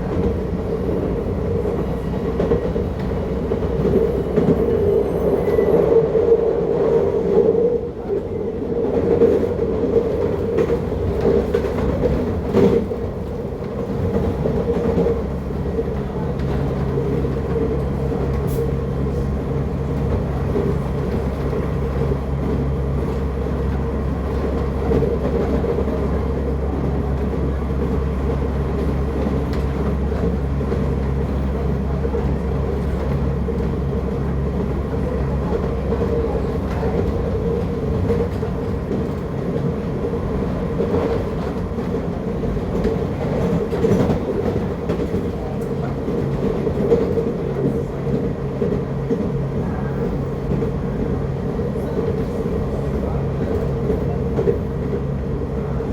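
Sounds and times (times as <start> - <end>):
train running noise inside car: 0.0 - 55.9.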